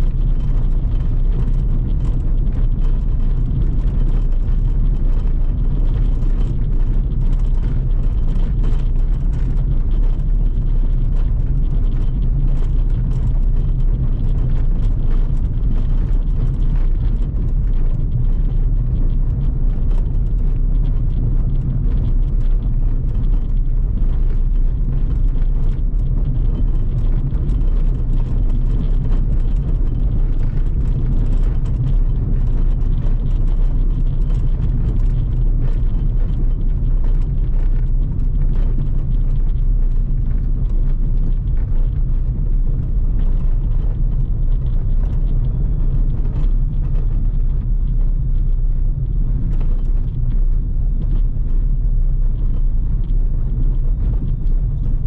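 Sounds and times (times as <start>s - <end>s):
car engine rumble inside cabin: 0.0s - 55.0s.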